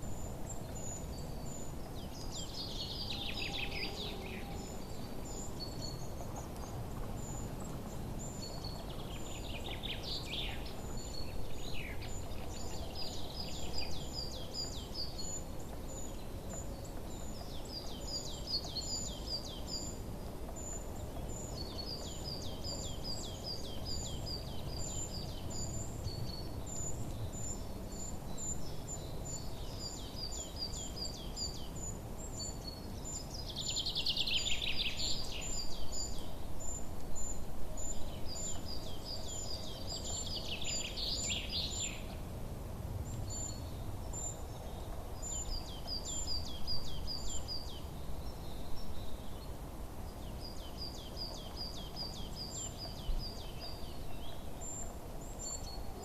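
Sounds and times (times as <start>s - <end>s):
songbirds chirping and singing: 0.0s - 42.4s, 43.0s - 56.0s.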